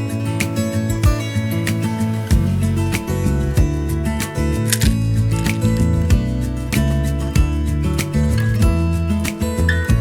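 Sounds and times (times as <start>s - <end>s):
pop song with acoustic guitar: 0.0s - 10.0s.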